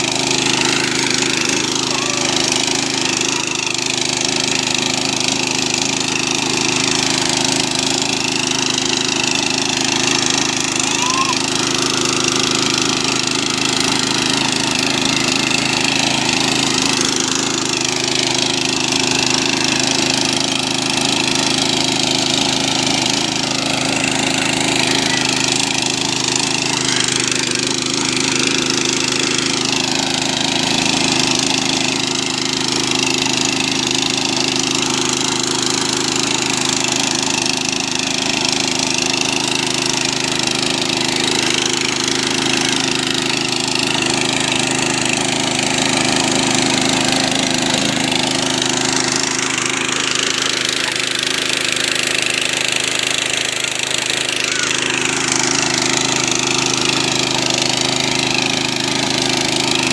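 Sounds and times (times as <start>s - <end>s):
power tiller engine running: 0.0s - 59.9s.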